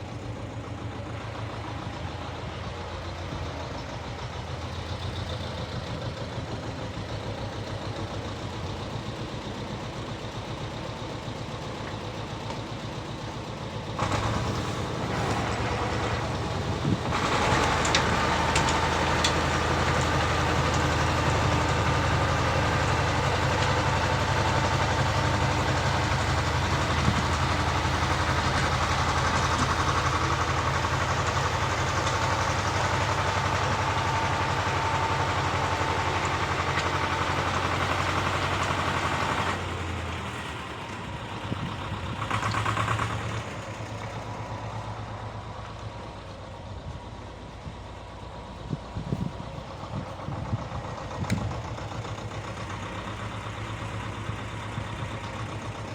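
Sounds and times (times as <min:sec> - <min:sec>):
rotary tiller engine running: 0:00.0 - 0:46.2.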